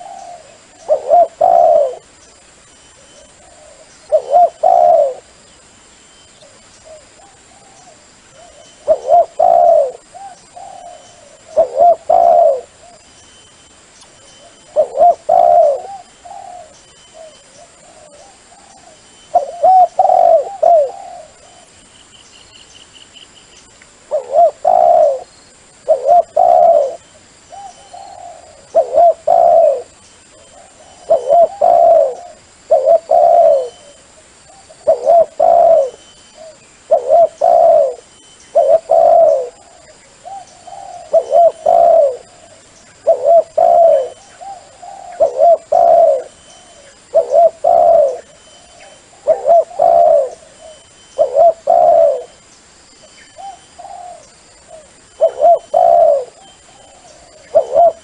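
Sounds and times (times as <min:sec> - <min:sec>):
dove cooing: 0:00.0 - 0:05.4, 0:06.4 - 0:13.1, 0:14.4 - 0:21.9, 0:24.1 - 0:52.4, 0:53.3 - 0:58.0.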